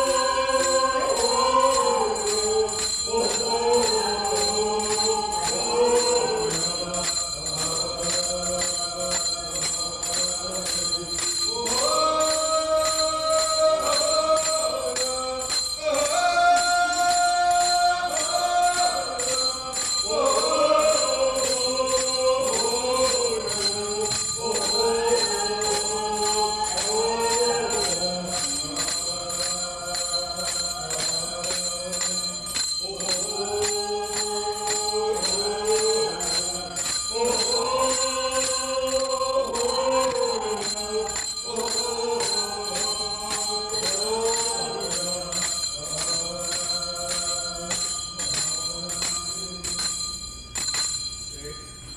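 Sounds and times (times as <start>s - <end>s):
jingling percussion beat: 0.0s - 51.9s.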